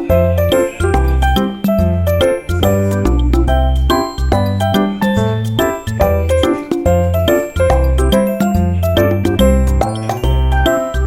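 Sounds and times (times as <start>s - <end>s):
bright tinkling tune: 0.0s - 11.0s
steady bass: 0.0s - 11.0s.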